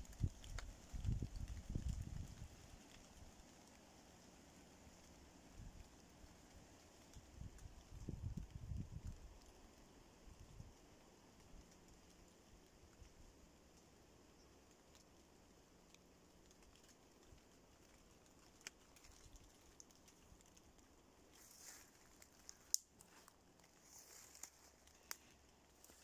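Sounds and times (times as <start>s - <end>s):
light rain pattering on leaves: 0.0s - 26.0s.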